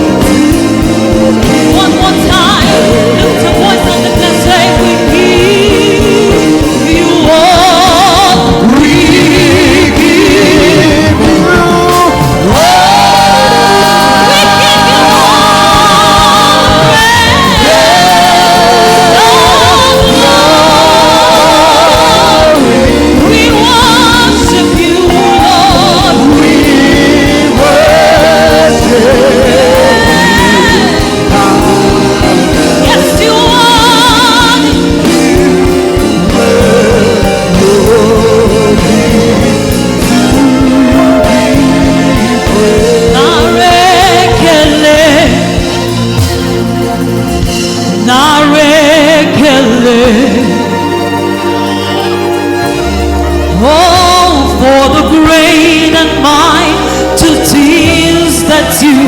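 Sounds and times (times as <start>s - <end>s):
gospel choir singing: 0.0s - 59.0s
lead singer with vibrato: 0.0s - 59.0s
live band playing: 0.0s - 59.0s.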